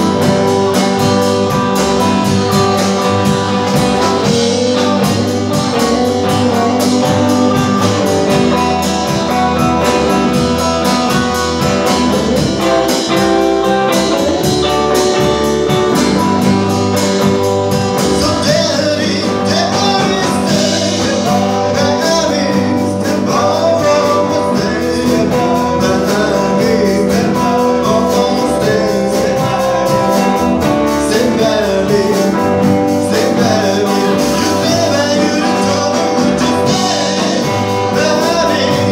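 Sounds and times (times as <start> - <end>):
drum kit beat: 0.0 - 38.9
rock and roll band playing: 0.0 - 38.9
man singing: 2.5 - 38.9.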